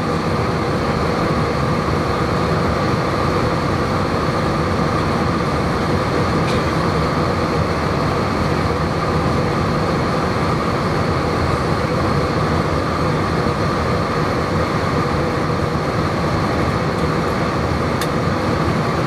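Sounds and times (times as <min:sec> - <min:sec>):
aircraft cabin engine noise: 0:00.0 - 0:19.0.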